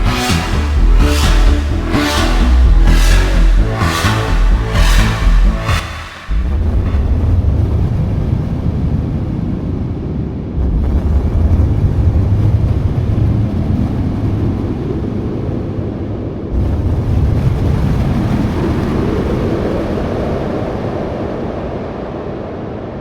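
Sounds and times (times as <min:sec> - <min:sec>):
synthesizer windy rumble: 0:00.0 - 0:23.0.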